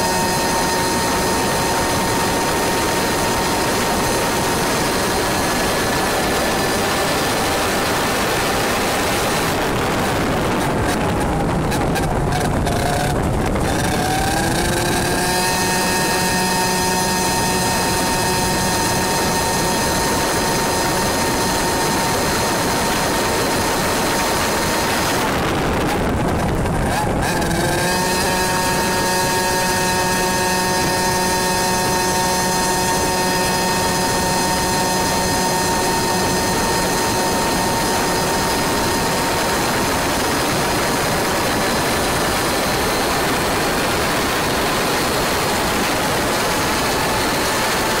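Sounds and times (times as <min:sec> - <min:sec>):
kart engine at high revs: 0:00.0 - 0:48.0.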